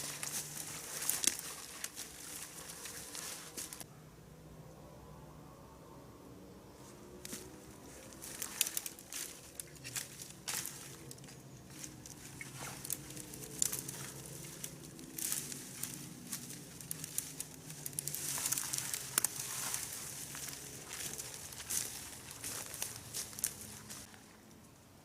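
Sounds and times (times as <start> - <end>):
dry leaves and twigs crackling: 0.0 - 3.9, 6.8 - 24.8
faint low hum: 0.0 - 25.0.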